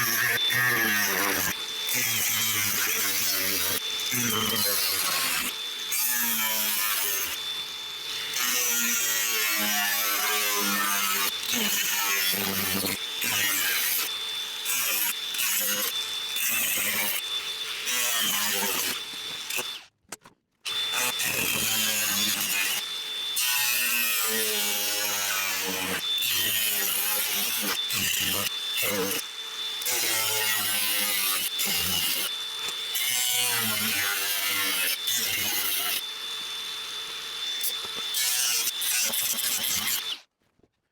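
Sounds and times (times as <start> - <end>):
power tool cutting sheet steel: 0.0 - 19.9, 20.7 - 40.3.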